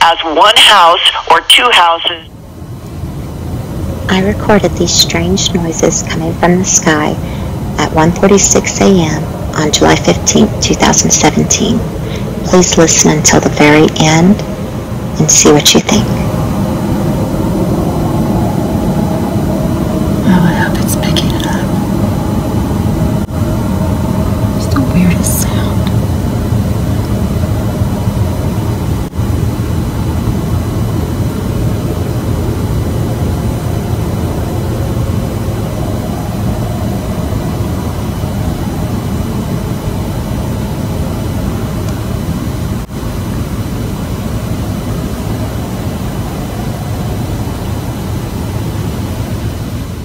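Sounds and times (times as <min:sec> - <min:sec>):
low rumbling drone with hiss: 0:00.0 - 0:50.0.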